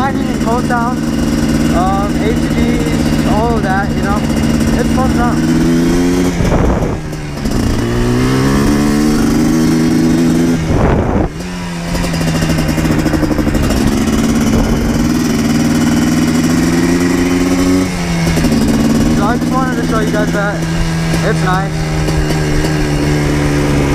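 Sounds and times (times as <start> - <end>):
two-stroke engine accelerating: 0.0 - 23.9.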